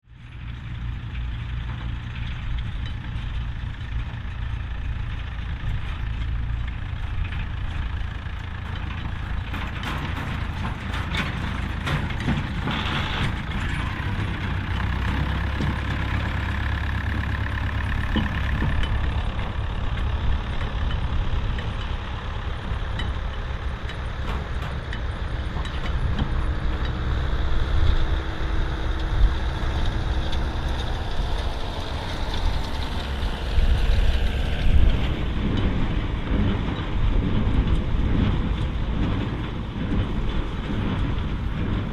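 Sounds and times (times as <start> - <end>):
tractor diesel engine running: 0.0 - 41.9
hay baler clicks and knocks: 0.2 - 41.9.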